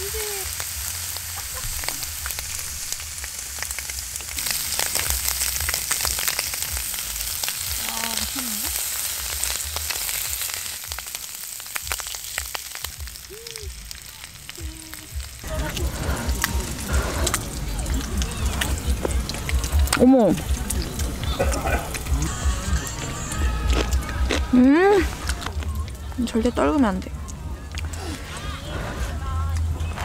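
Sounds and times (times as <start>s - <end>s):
beef sizzling: 0.0s - 28.6s.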